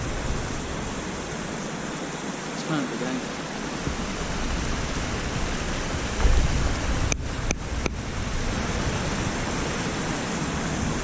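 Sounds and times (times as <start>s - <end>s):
wind buffeting microphone: 0.0s - 2.0s, 3.4s - 11.0s
waterfall rushing: 0.0s - 11.0s.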